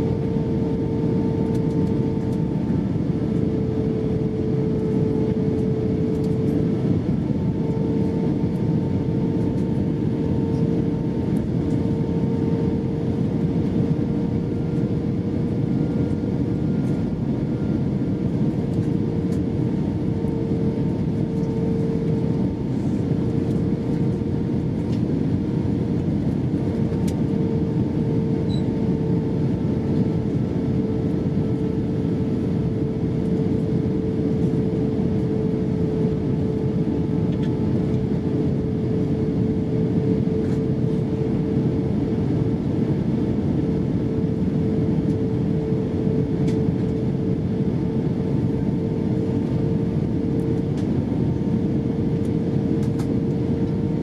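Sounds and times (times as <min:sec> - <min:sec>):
jet engine and airflow rush: 0:00.0 - 0:54.0
steady humming tone: 0:00.0 - 0:54.0.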